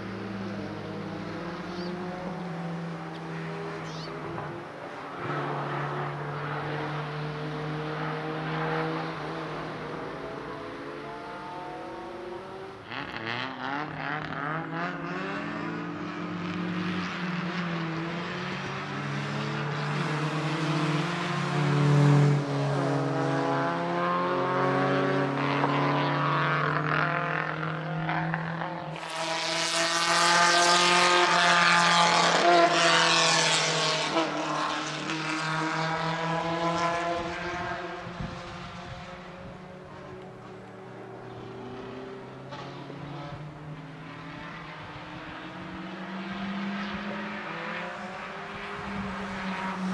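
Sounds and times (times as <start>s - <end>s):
racing car engines at high revs: 0.0s - 49.9s.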